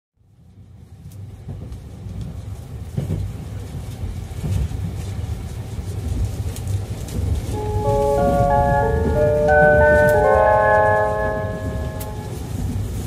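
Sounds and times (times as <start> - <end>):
train low rumble: 0.3 - 13.0.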